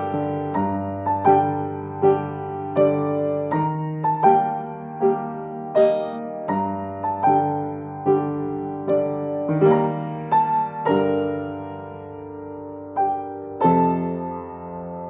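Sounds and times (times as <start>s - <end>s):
solo piano played slowly: 0.0s - 15.0s.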